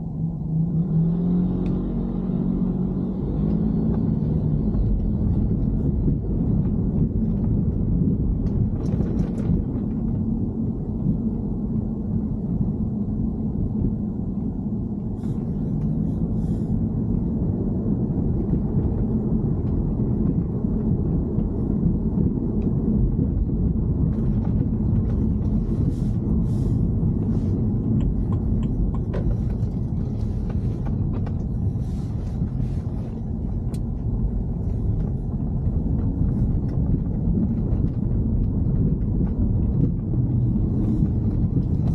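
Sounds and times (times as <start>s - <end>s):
car driving rumble: 0.0s - 41.9s.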